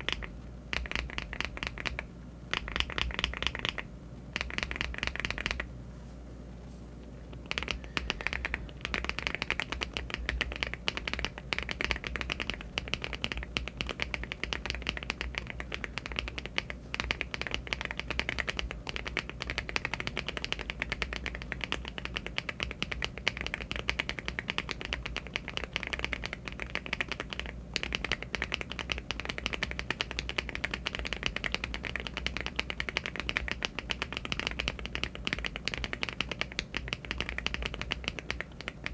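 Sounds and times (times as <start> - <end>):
mechanical keyboard typing: 0.0 - 3.8, 4.4 - 5.6, 7.4 - 38.9.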